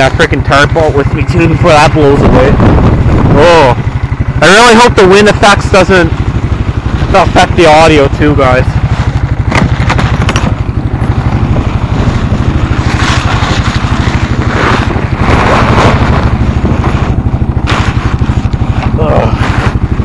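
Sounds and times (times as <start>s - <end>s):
wind buffeting microphone: 0.0s - 4.6s, 8.4s - 20.0s
engine idling: 0.0s - 20.0s.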